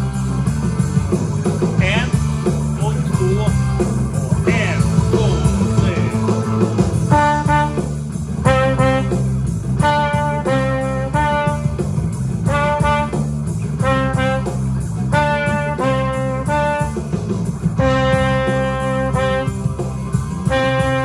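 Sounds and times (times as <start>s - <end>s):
accompanying music with bass line: 0.0s - 21.0s
trumpet playing melody: 1.8s - 21.0s.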